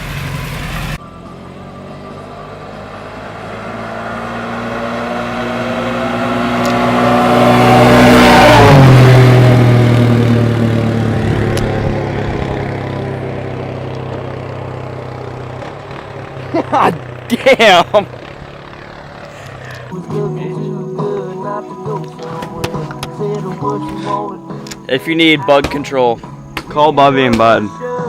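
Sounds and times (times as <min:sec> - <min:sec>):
car engine passing by: 0:00.0 - 0:27.4.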